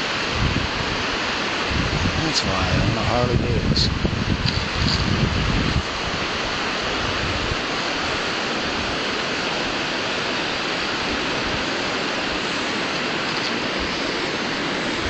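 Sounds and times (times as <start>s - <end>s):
river running over rocks: 0.0s - 15.0s
wind rumble on microphone: 0.0s - 15.0s.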